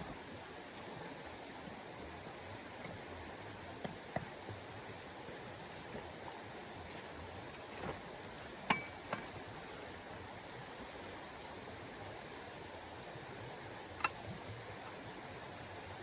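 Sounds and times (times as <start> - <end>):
steady soft hiss: 0.0 - 16.0.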